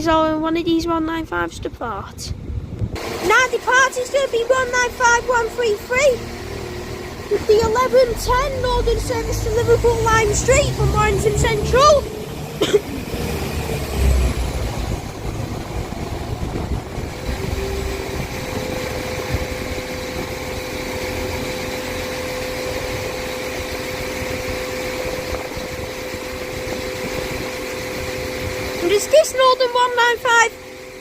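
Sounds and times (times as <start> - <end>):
diesel train engine: 0.0 - 31.0.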